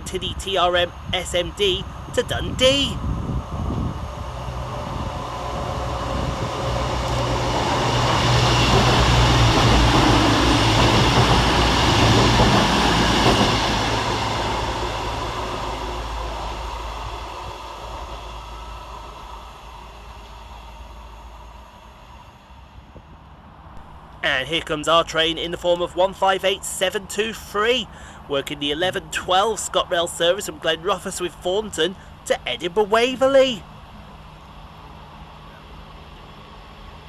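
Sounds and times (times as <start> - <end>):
diesel train engine: 0.0 - 37.0
train wheel and rail noise: 0.0 - 37.0.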